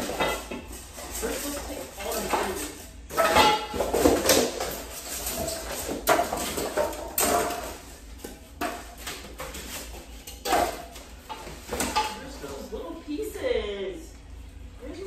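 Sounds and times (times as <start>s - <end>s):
parts knocking and clattering on floor: 0.0s - 12.6s
plastic wrap rustling: 0.0s - 12.7s.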